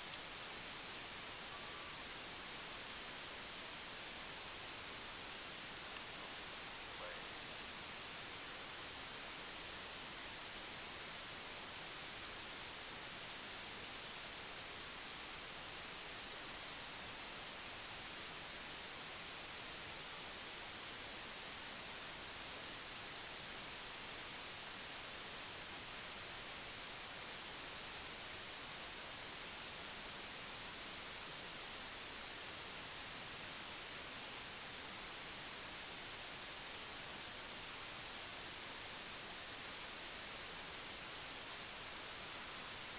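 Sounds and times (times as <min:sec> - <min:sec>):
static-like hiss: 0:00.0 - 0:42.9.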